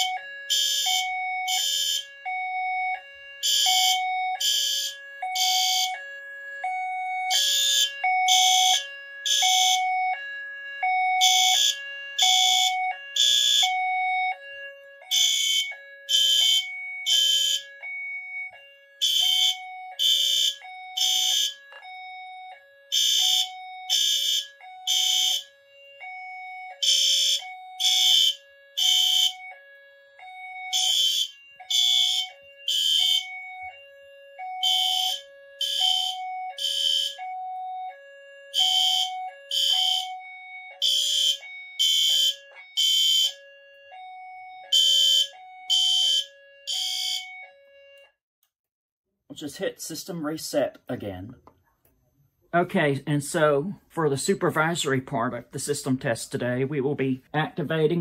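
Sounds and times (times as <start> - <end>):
fire alarm horn blasts: 0.0 - 48.2.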